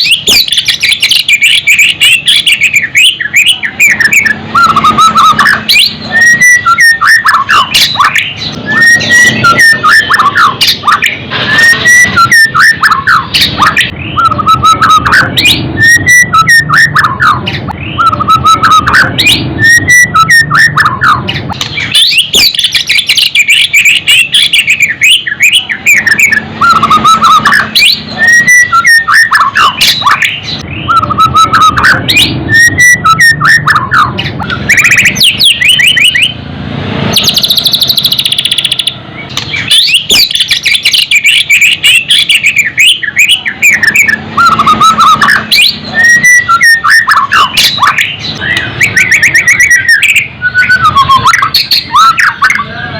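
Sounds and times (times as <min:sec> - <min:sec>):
songbird whistling and chattering: 0:00.0 - 0:36.4, 0:37.1 - 0:52.9.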